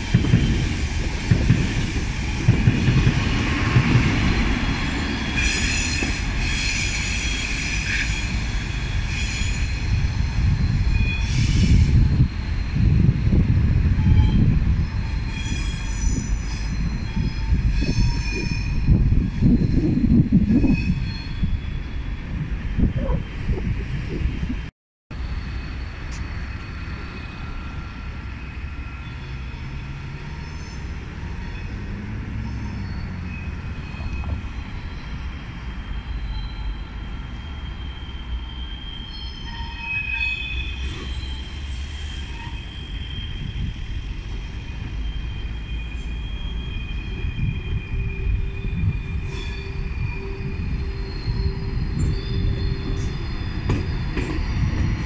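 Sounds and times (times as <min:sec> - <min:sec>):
train wheels squealing: 0:00.0 - 0:23.4, 0:25.2 - 0:55.0
low train rumble: 0:00.0 - 0:55.0.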